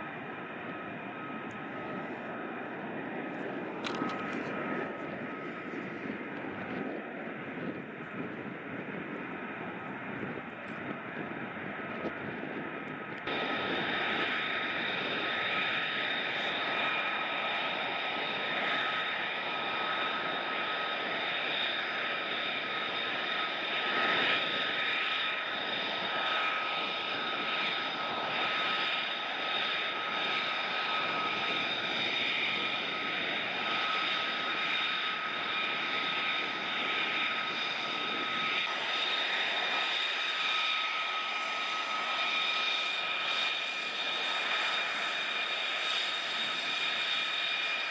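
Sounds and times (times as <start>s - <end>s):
jet engine running with whine: 0.0s - 47.9s.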